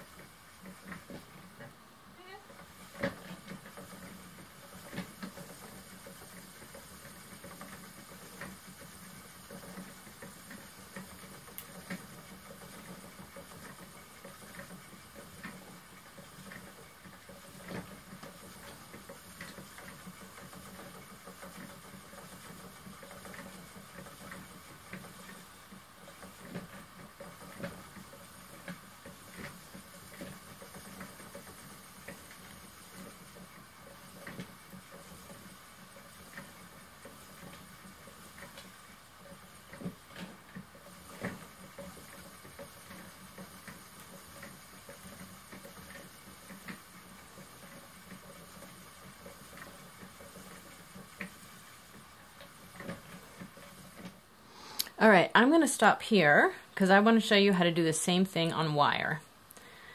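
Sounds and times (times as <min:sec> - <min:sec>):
spinning wheel running: 0:00.0 - 0:59.9.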